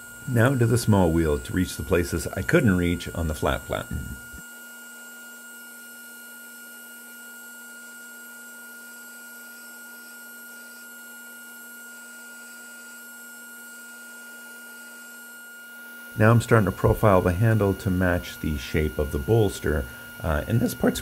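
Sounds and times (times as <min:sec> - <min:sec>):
belt grinder humming: 0:00.0 - 0:04.4, 0:06.5 - 0:15.2, 0:16.0 - 0:21.0.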